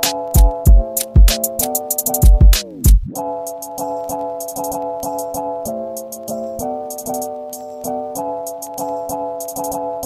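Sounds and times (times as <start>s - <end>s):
held chords over a quick beat: 0.0s - 10.0s.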